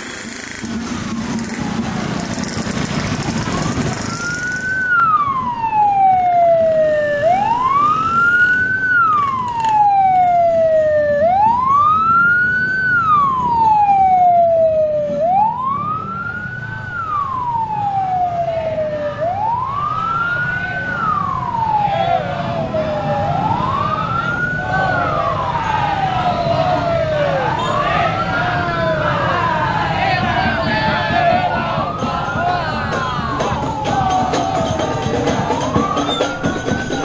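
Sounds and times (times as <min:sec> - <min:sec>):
traffic and motorbikes hum: 0:00.0 - 0:37.0
police siren wailing: 0:00.9 - 0:37.0
higher siren wailing: 0:01.4 - 0:37.0.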